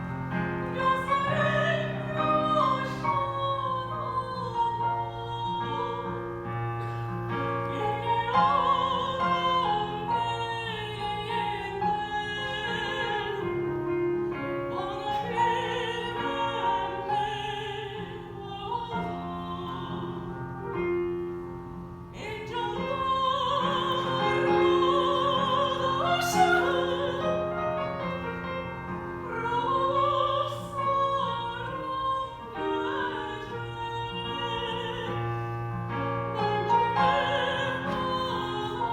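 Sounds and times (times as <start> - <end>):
woman singing opera: 0.0 - 21.0, 22.1 - 38.9
piano: 0.0 - 38.9.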